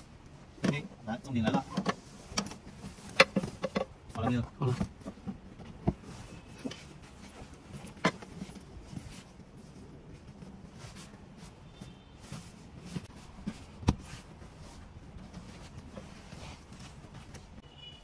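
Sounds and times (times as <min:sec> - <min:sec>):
seat cover rustling and rubbing: 0:00.7 - 0:17.6.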